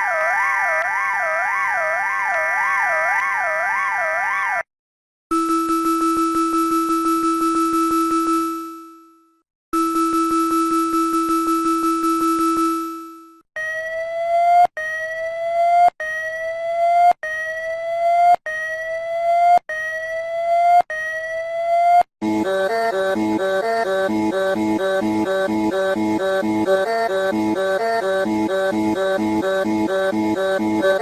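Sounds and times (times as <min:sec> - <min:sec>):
rising alarm tone: 0:05.3 - 0:09.2, 0:09.8 - 0:31.0.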